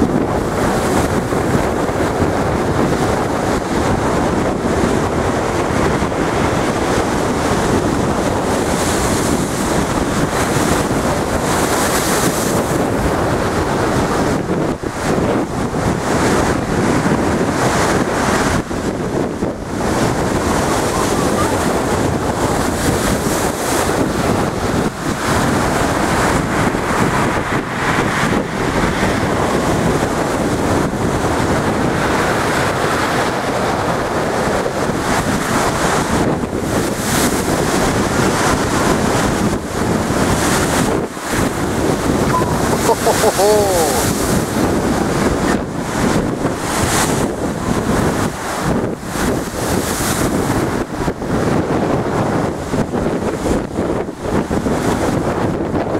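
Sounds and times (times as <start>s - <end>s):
surf churning against sea wall: 0.0s - 55.9s
wind buffeting microphone: 0.0s - 55.9s.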